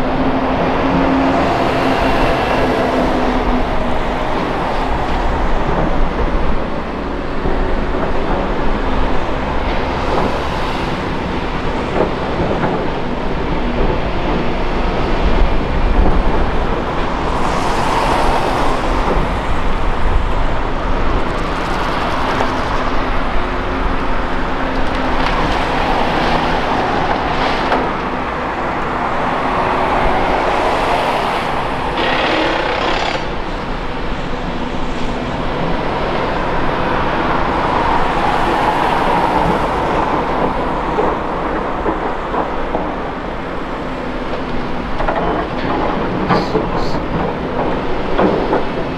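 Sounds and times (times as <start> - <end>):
excavator engine drone: 0.0 - 48.9.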